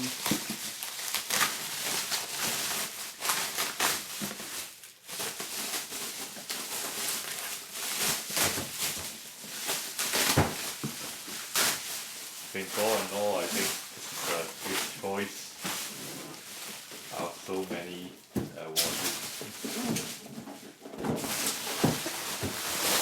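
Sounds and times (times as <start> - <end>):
packaging rustling and crinkling: 0.0 - 23.0.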